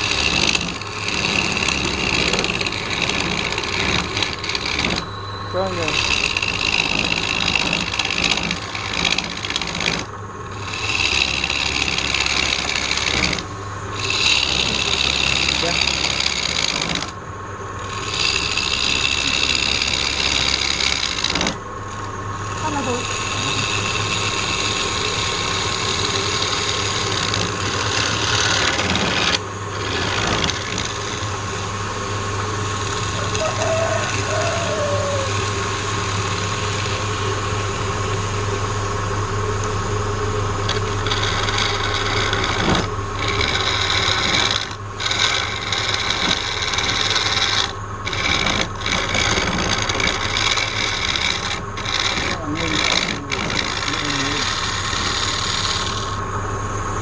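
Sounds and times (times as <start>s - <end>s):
lathe motor hum: 0.0s - 57.0s
tool scraping spinning wood: 0.0s - 57.0s.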